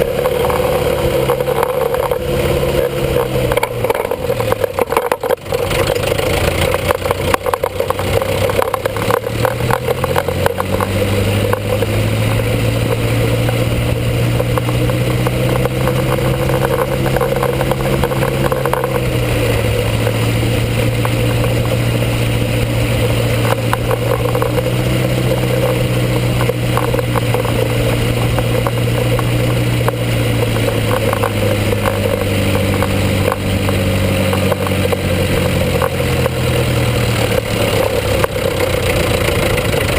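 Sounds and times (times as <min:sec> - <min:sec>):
diesel tractor engine running: 0:00.0 - 0:39.9
engine clattering and crackling: 0:00.0 - 0:39.9.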